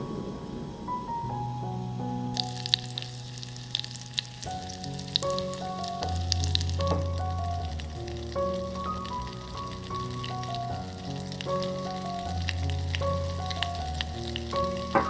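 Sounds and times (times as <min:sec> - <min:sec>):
butter sizzling in a saucepan: 0:02.4 - 0:15.0.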